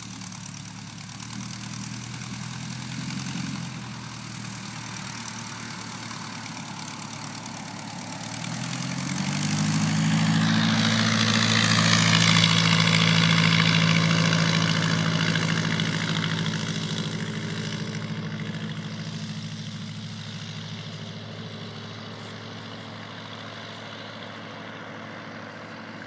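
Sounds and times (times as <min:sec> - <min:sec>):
biplane engine passing low: 0:00.0 - 0:26.0.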